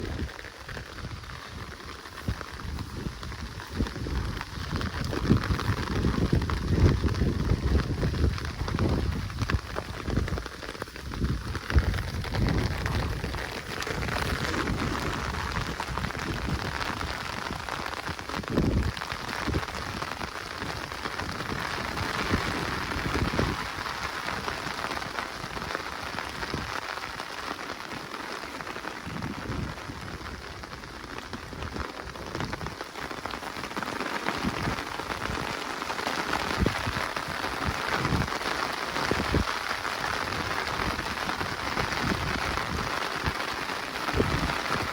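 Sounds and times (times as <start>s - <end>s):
rain pattering in a forest: 0.0s - 44.9s.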